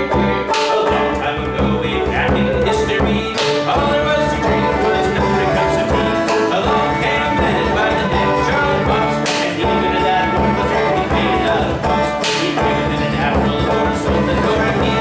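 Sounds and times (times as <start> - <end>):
acoustic guitar strumming: 0.0 - 15.0
banjo picking: 0.0 - 15.0
flute: 0.0 - 15.0
frame drum beaten with a stick: 0.0 - 15.0
man singing: 0.0 - 15.0.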